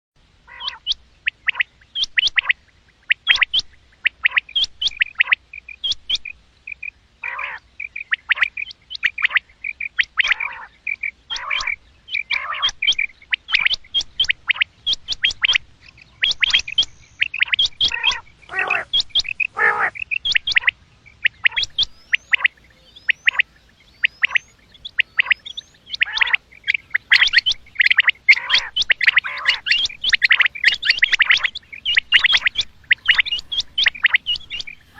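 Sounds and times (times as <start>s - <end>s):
quail calling: 0.4s - 34.9s.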